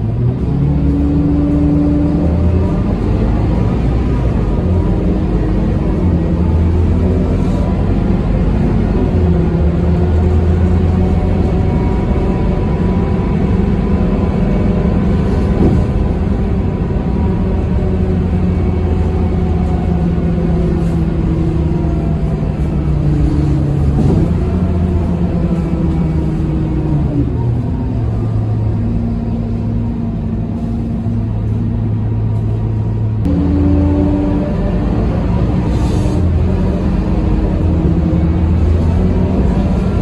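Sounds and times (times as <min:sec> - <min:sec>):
bus diesel engine droning: 0:00.0 - 0:40.0
road noise: 0:00.0 - 0:40.0.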